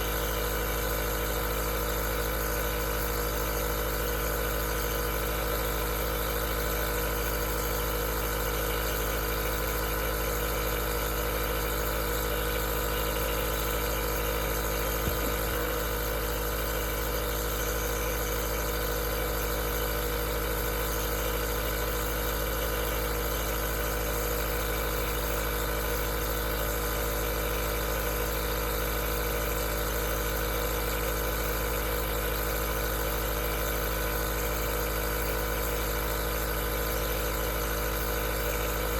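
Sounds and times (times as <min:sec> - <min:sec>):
nebulizer compressor humming: 0:00.0 - 0:38.9.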